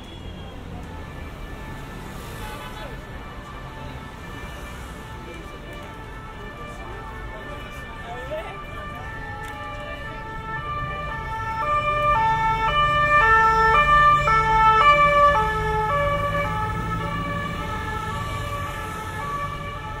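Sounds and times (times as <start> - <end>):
low traffic rumble: 0.0 - 20.0
two-tone siren: 0.4 - 20.0.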